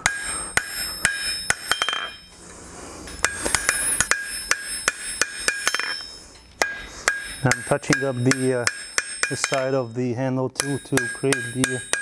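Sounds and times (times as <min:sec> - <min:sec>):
hammer striking steel on anvil: 0:00.0 - 0:02.4, 0:03.1 - 0:12.0.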